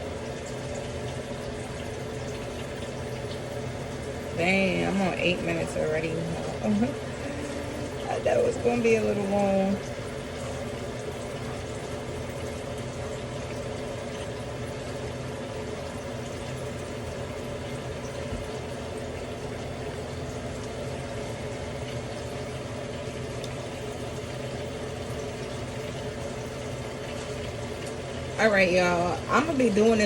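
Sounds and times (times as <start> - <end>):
chicken frying in hot oil: 0.0 - 30.0.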